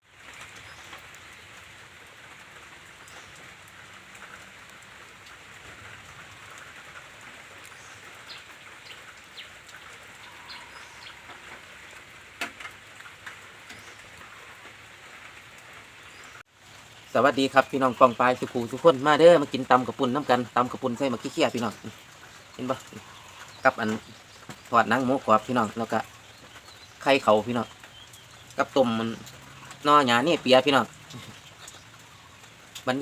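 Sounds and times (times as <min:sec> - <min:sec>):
light rain falling: 0:00.0 - 0:33.0
faint drip ticks: 0:00.1 - 0:33.0.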